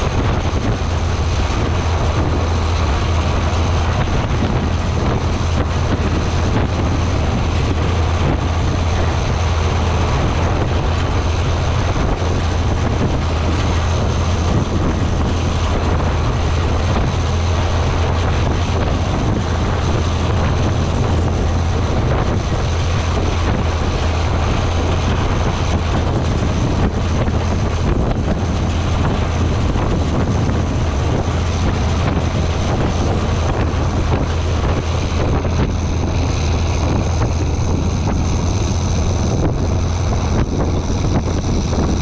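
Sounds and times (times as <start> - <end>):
tractor engine drone: 0.0 - 42.0
wind buffeting microphone: 0.0 - 42.0.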